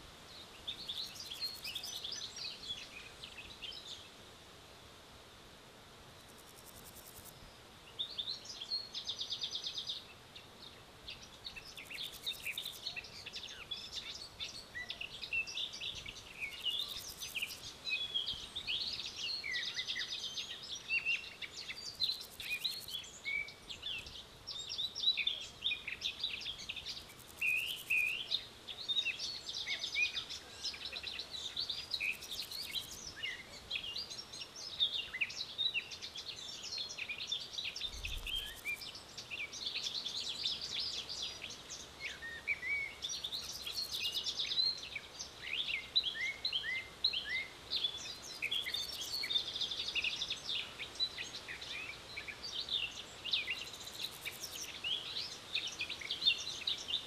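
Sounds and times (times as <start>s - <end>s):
small birds chirping: 0.0s - 4.2s, 6.2s - 57.0s.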